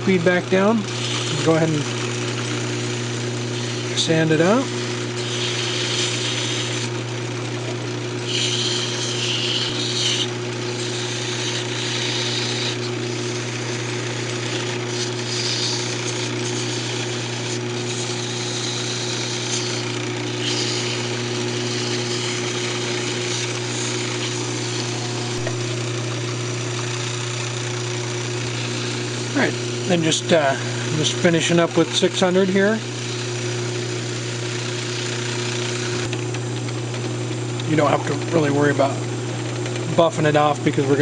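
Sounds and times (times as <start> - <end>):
wood lathe humming: 0.0 - 41.0
sandpaper hissing on spinning wood: 0.9 - 2.0, 2.8 - 7.0, 8.1 - 36.1.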